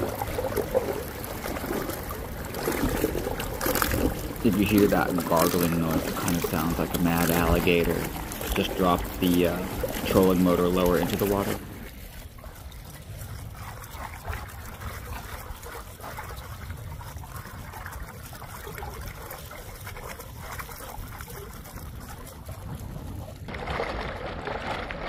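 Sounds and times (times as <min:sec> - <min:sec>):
steady water rush: 0:00.0 - 0:25.0
water gurgling around propeller: 0:00.0 - 0:25.0.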